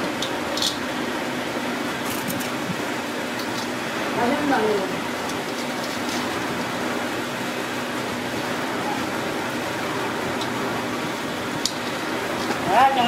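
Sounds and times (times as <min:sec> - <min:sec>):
mechanical hum and hiss: 0:00.0 - 0:13.0.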